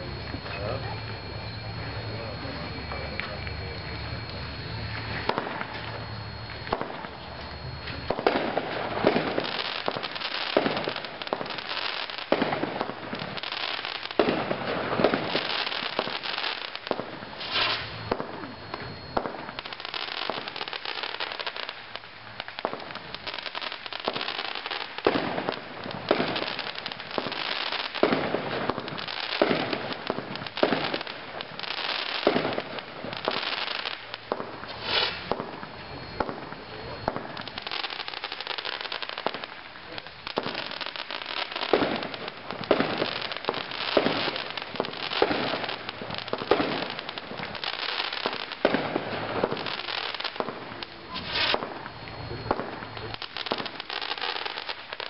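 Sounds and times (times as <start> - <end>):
firework crackling: 0.0 - 55.0
firework shots and aerial bursts: 0.0 - 55.0.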